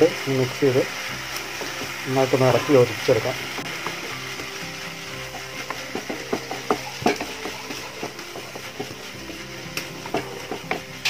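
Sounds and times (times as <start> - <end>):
light sizzle: 0.0 - 11.0
spatula scraping a pan: 1.3 - 11.0.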